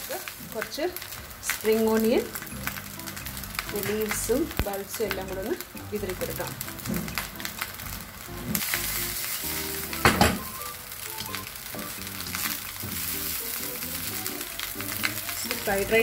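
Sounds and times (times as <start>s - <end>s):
rice sizzling in a wok: 0.0s - 16.0s.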